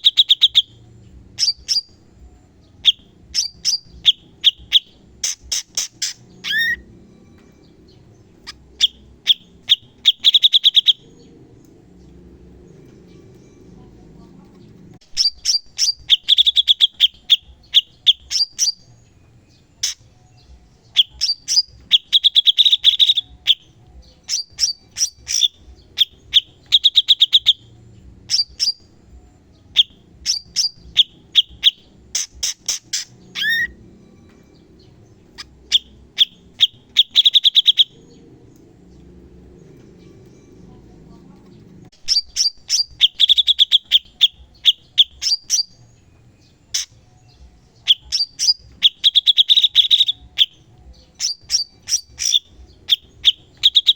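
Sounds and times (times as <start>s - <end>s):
bird singing high chipping notes: 0.0s - 53.9s.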